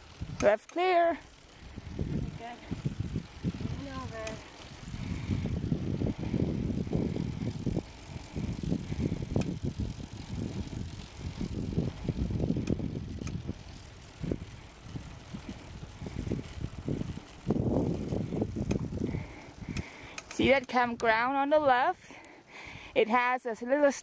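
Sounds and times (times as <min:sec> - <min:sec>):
wind buffeting microphone: 0:00.0 - 0:00.4, 0:01.3 - 0:21.7.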